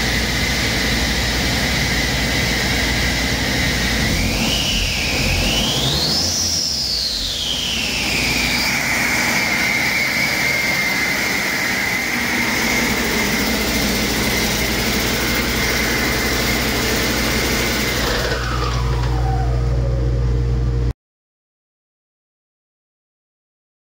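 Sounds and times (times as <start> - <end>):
diesel engine low rumble: 0.0 - 20.9
turbocharger whine: 0.0 - 20.9.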